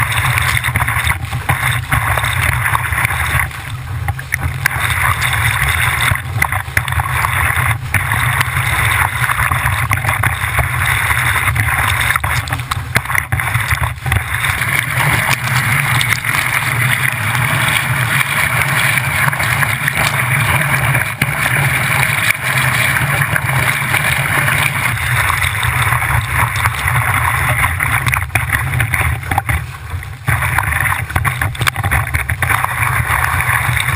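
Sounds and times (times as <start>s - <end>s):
low rumble: 0.0s - 33.9s
water splashing along hull: 0.0s - 33.9s.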